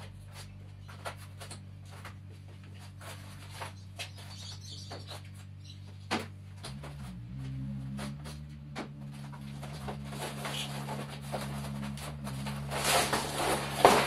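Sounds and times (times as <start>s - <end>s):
cardboard and plastic rustling: 0.0s - 14.0s
steady low hum: 0.0s - 14.0s.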